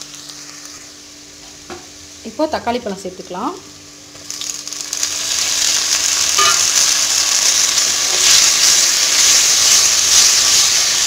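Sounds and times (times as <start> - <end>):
tomatoes sizzling in oil: 0.0 - 11.0.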